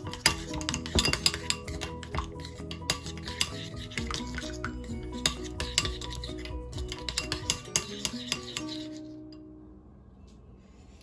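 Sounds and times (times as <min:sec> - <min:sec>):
spoon scraping ceramic bowl: 0:00.0 - 0:09.2
background music: 0:00.0 - 0:09.4.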